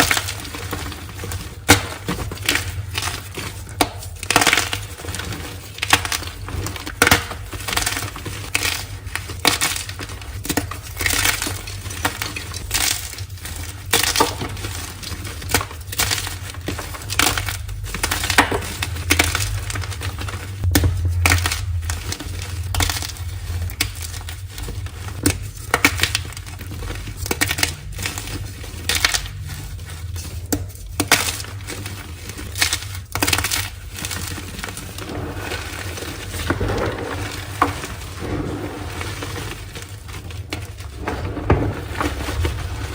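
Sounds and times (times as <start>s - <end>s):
chalk being crushed: 0.0s - 42.9s
steady low hum: 0.0s - 42.9s.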